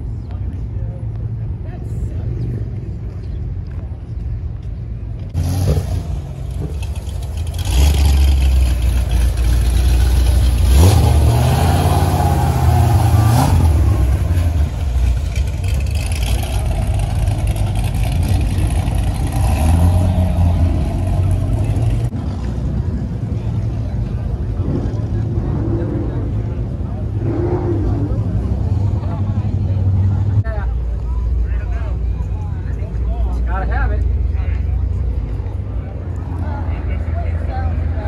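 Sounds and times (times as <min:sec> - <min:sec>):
car engines idling and revving: 0:00.0 - 0:38.0.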